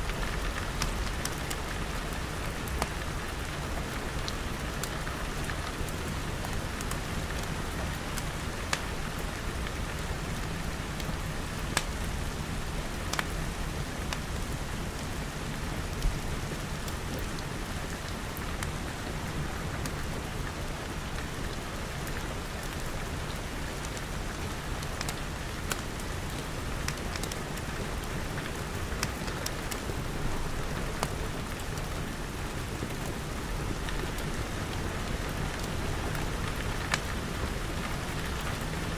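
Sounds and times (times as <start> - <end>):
rain pattering on glass: 0.0 - 38.9.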